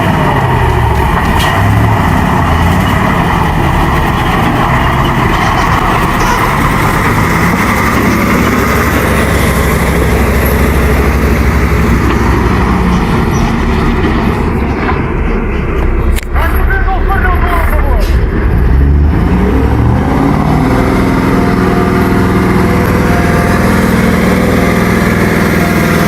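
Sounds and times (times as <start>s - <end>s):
truck engine running loudly: 0.0s - 26.0s.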